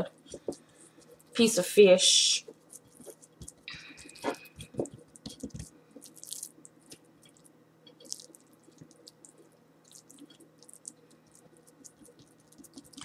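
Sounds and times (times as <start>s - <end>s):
hands squishing and patting fish: 2.4s - 13.0s.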